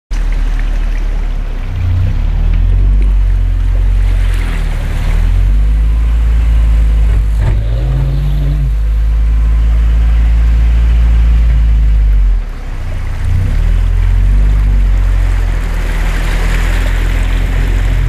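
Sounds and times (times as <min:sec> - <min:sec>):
water sloshing: 0:00.1 - 0:18.0
truck engine running: 0:00.2 - 0:18.0.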